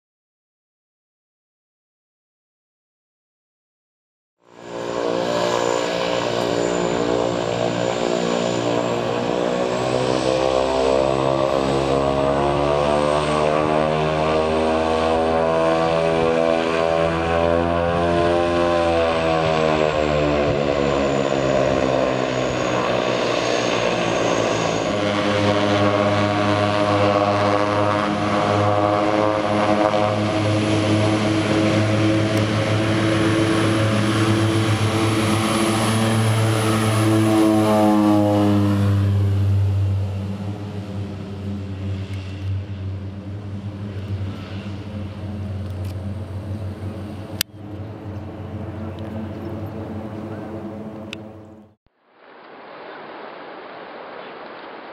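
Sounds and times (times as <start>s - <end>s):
propeller hum: 4.4s - 51.8s
high turbine whine: 4.4s - 54.9s.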